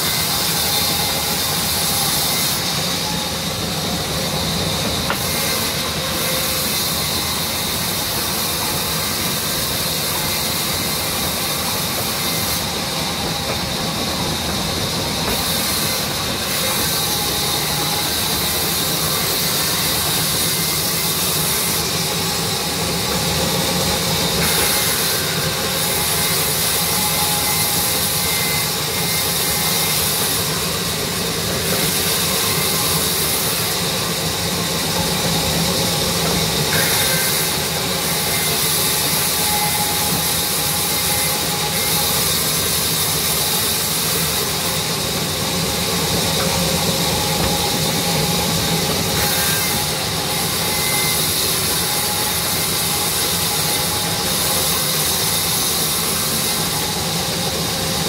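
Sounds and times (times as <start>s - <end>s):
band saw cutting through log: 0.0s - 58.0s.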